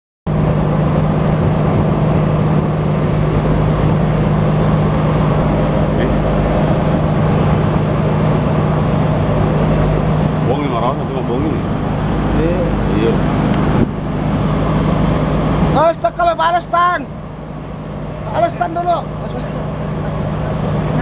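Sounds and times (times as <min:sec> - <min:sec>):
boat engine droning: 0:00.3 - 0:21.0
water rushing along hull: 0:00.3 - 0:21.0.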